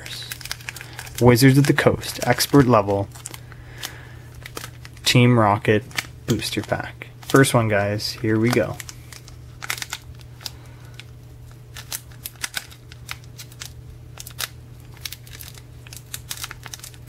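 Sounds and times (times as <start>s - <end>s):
foil wrapper crinkling: 0.0s - 17.0s
steady low hum: 0.0s - 17.0s.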